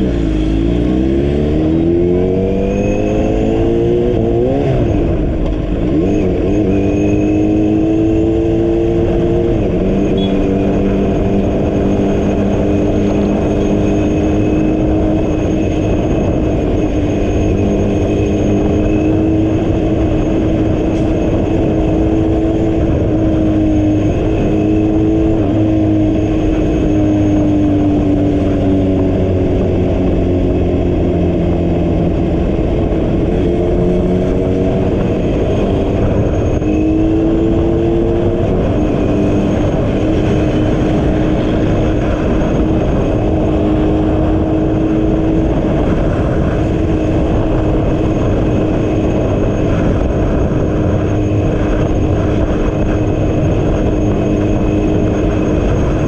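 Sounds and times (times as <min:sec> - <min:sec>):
vehicle engine hum: 0:00.0 - 0:56.0
wind and road noise: 0:00.0 - 0:56.0.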